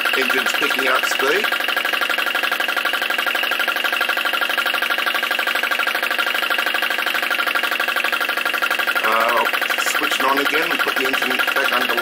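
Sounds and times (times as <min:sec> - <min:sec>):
small engine running with rapid beat: 0:00.0 - 0:12.0.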